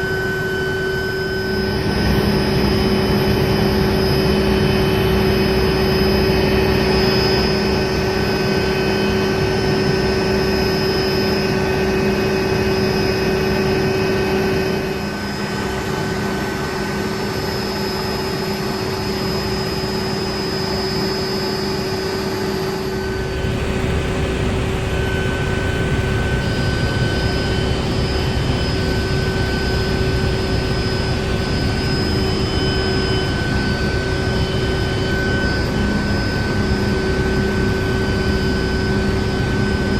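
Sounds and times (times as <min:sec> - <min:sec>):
helicopter engine and rotor: 0:00.0 - 0:39.9
whining tones: 0:00.0 - 0:39.9.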